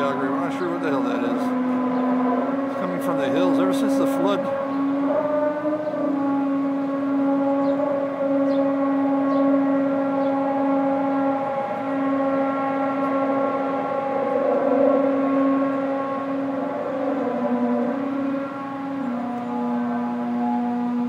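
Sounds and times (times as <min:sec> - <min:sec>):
low siren-like drone: 0:00.0 - 0:21.0.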